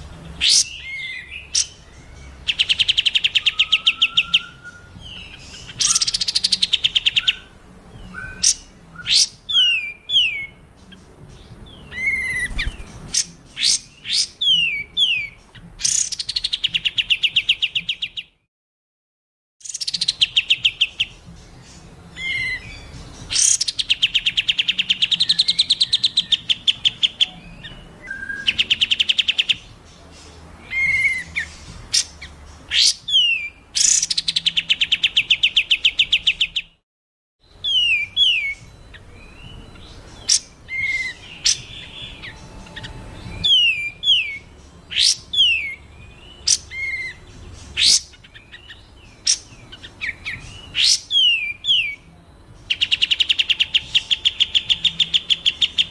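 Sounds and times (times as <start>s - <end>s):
songbird calls: 0.0s - 18.4s, 19.6s - 36.8s, 37.4s - 55.9s.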